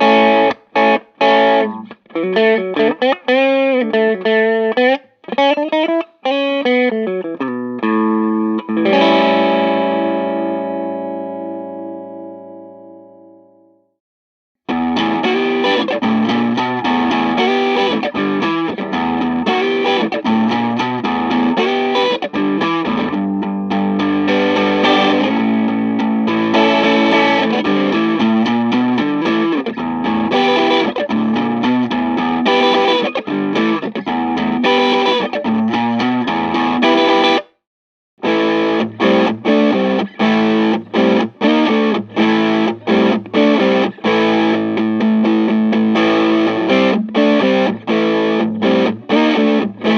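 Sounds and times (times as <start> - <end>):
overdriven electric guitar: 0.0 - 13.8, 14.7 - 37.6, 38.2 - 49.9.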